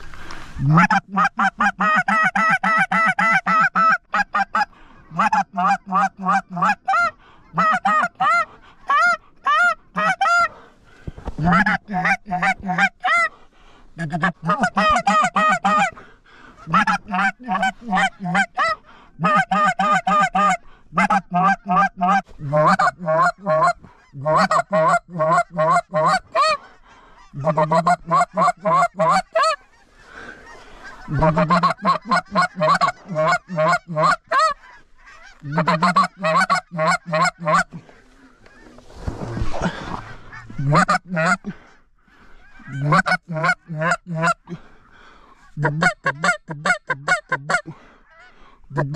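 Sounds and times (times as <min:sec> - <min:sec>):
goose call honks: 0:00.6 - 0:10.5, 0:14.0 - 0:16.0, 0:16.6 - 0:26.6, 0:27.2 - 0:38.8, 0:39.6 - 0:41.6, 0:42.4 - 0:44.4, 0:45.5 - 0:48.9.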